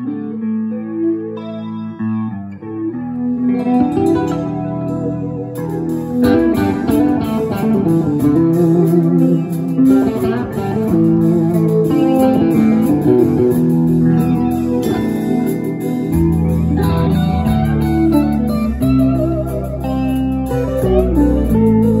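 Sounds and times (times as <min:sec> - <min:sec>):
electric guitar: 0:00.0 - 0:22.0
drums: 0:03.6 - 0:22.0.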